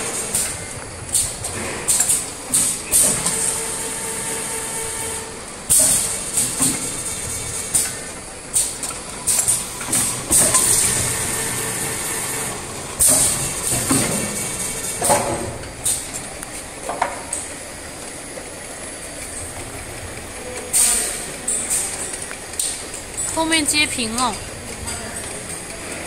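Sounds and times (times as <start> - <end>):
filling machine running: 0.0 - 26.0.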